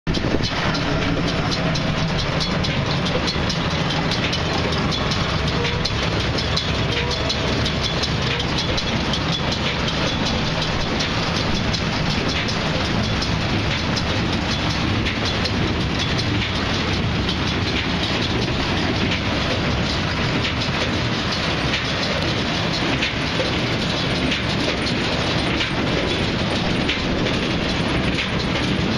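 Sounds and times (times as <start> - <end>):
farm machinery clattering: 0.1 - 28.9.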